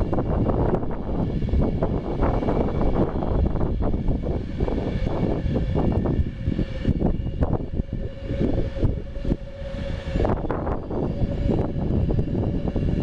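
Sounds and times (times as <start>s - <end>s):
steady tone: 0.0s - 13.0s
train rumbling past: 0.0s - 13.0s.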